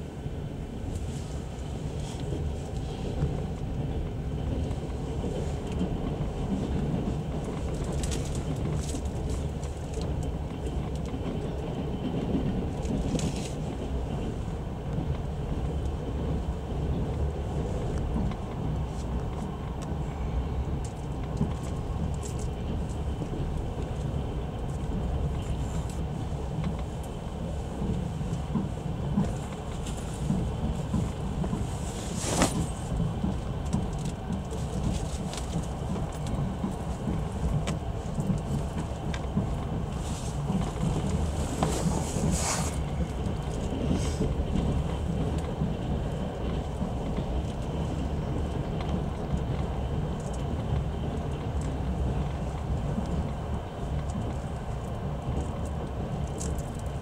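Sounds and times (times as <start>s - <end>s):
train carriage rolling on rails: 0.0s - 57.0s
light clicks of wheels: 0.9s - 57.0s.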